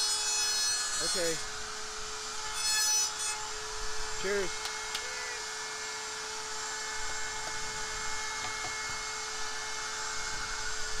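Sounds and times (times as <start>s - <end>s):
electric motor whining: 1.0s - 11.0s.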